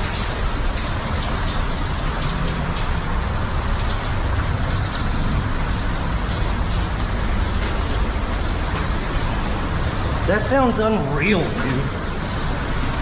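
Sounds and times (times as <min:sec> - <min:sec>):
deep water rumble: 0:00.0 - 0:13.0
waterfall rushing: 0:00.7 - 0:13.0.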